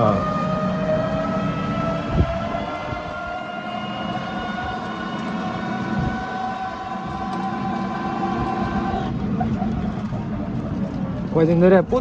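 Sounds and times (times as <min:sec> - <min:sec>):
low road rumble: 0:00.0 - 0:12.0
motorized rickshaw whine: 0:00.0 - 0:12.0.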